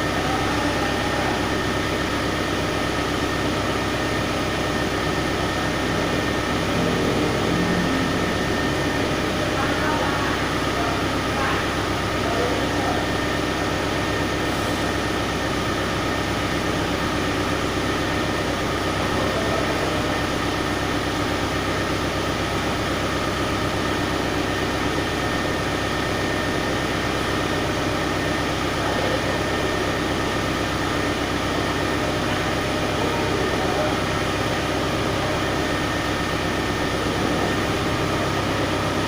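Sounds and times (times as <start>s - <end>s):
machine running with high whine: 0.0s - 39.0s.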